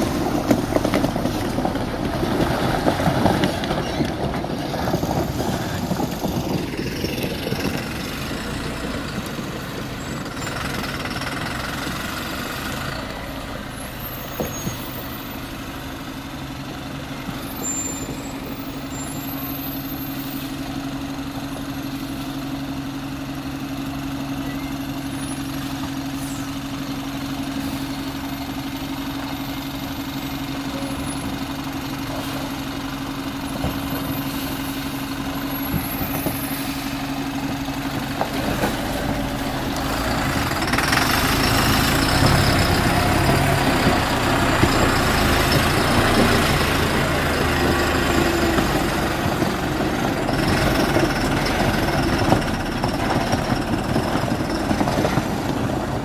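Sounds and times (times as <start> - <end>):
truck diesel engine at low revs: 0.0 - 56.0
wheels churning through mud: 0.0 - 56.0.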